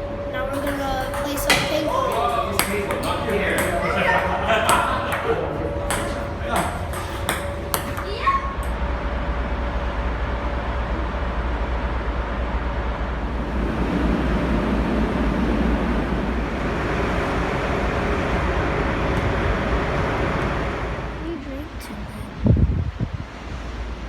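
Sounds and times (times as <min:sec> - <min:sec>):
faint hum: 0:00.0 - 0:24.0
steady rumbling: 0:00.0 - 0:24.0.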